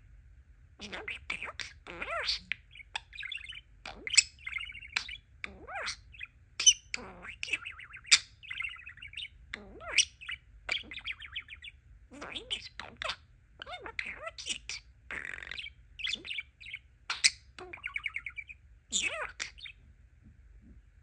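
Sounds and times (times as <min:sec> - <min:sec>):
budgerigar warbling and chattering: 0:00.8 - 0:19.8.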